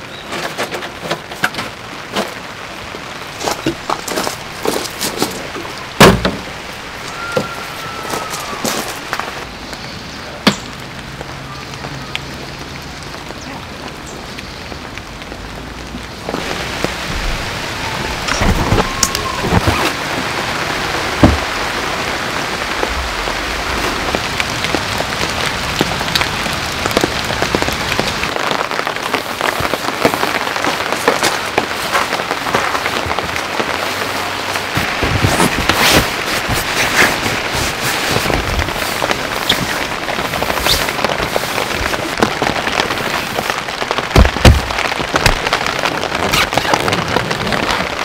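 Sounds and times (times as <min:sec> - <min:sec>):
heavy rain on tent fabric: 0:00.0 - 0:48.0.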